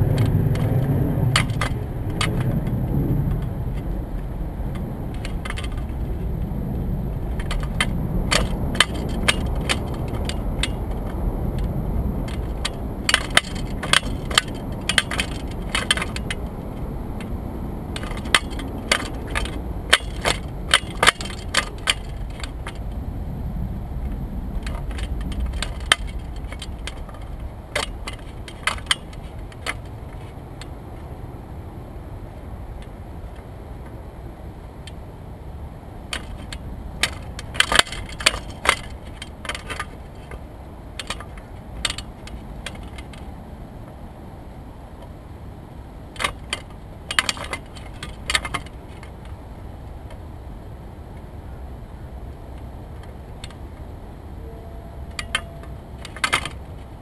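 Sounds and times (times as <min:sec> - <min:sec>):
sharp clicks and rattles: 0:00.0 - 0:23.0, 0:24.0 - 0:31.1, 0:36.0 - 0:44.0, 0:46.0 - 0:50.4, 0:52.3 - 0:54.0, 0:55.0 - 0:57.0
wind buffeting microphone: 0:00.0 - 0:57.0.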